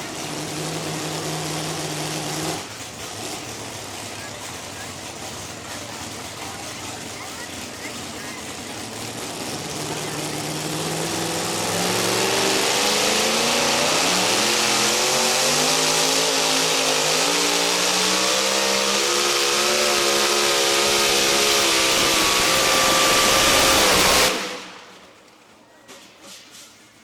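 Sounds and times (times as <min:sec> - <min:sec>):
truck engine at full throttle: 0:00.0 - 0:25.2.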